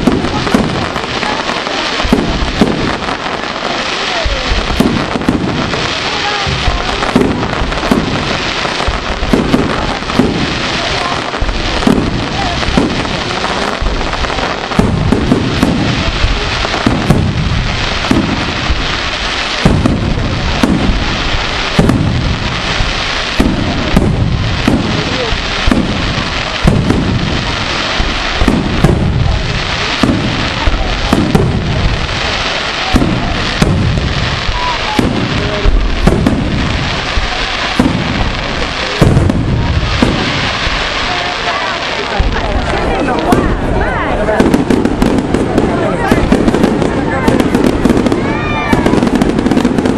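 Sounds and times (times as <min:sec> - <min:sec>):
fireworks bangs and crackling: 0:00.0 - 0:49.9
heavy fireworks booms: 0:00.0 - 0:49.9.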